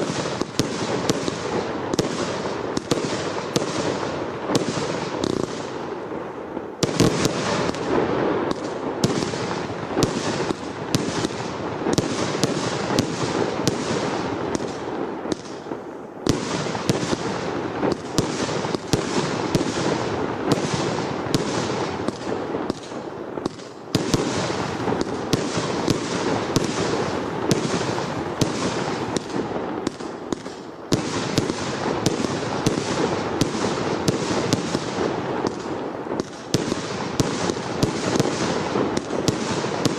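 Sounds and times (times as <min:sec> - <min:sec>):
firework bangs and crackling: 0:00.0 - 0:39.9.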